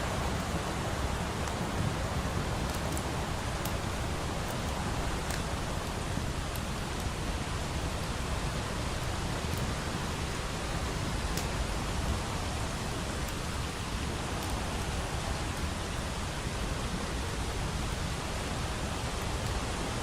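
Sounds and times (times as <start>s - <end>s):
steady rain: 0.0s - 20.0s
wood fire crackling: 0.0s - 20.0s.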